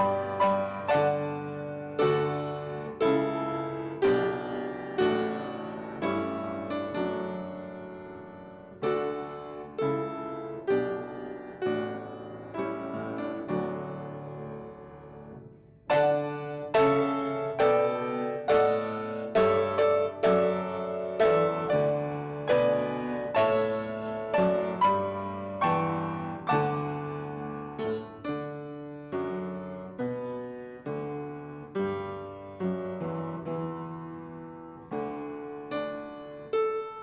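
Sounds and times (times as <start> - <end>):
piano playing slow chords: 0.0 - 37.0.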